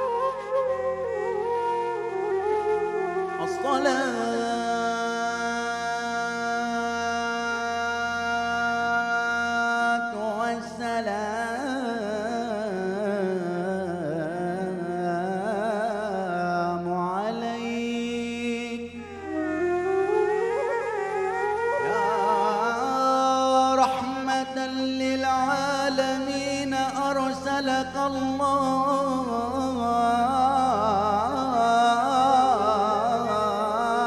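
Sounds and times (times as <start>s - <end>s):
man singing into microphone: 3.4s - 19.5s, 21.6s - 34.0s.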